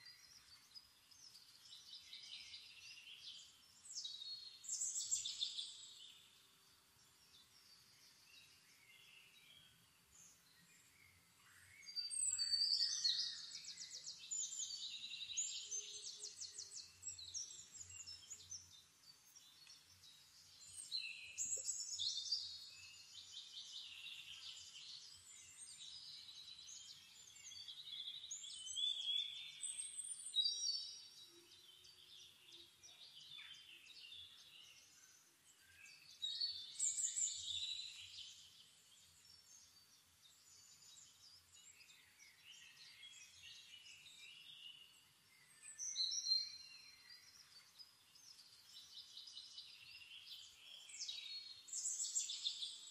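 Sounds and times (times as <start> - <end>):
quiet bird chirps: 0.0 - 52.9.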